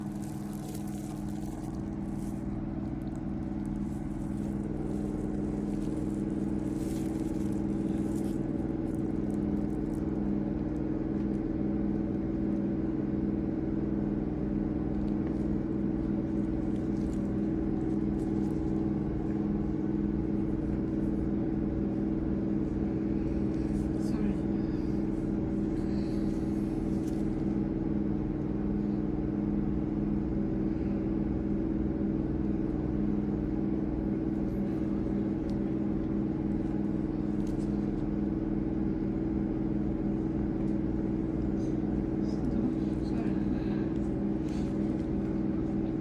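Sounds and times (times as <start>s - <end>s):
steady machine hum: 0.0s - 46.0s.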